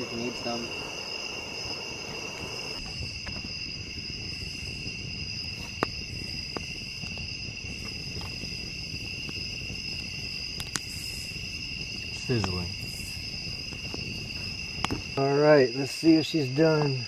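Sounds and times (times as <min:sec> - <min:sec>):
campfire crackling: 0:00.0 - 0:17.0
crickets chirping: 0:00.0 - 0:17.0
sharp crack of fire: 0:00.0 - 0:17.0.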